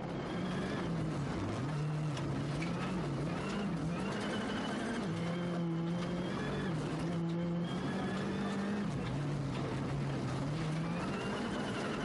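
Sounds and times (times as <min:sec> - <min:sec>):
rally car engine at full speed: 0:00.0 - 0:12.0.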